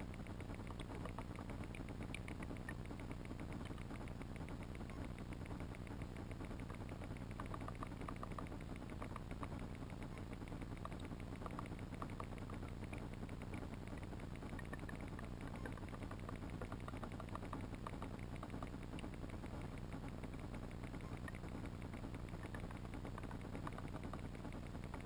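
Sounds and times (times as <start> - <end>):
crackle of faint clicks: 0.0 - 25.0.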